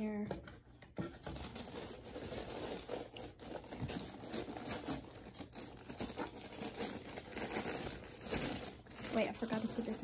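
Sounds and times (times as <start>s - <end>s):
knocks and scrapes of handling: 0.0s - 10.0s
tissue paper rustling: 1.2s - 10.0s.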